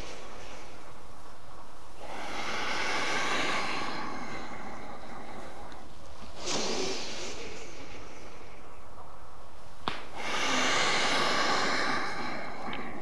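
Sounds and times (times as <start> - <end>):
background hiss: 0.0 - 13.0
person breathing slowly: 0.0 - 13.0.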